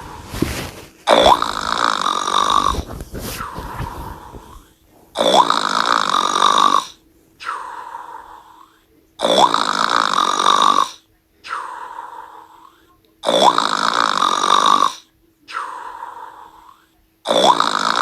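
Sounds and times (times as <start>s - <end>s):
loud snoring: 0.0s - 11.0s, 12.0s - 18.0s.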